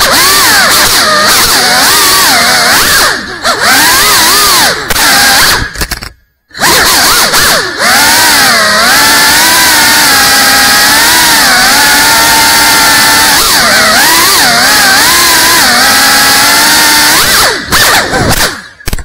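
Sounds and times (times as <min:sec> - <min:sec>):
drone propellers whining: 0:00.0 - 0:18.9.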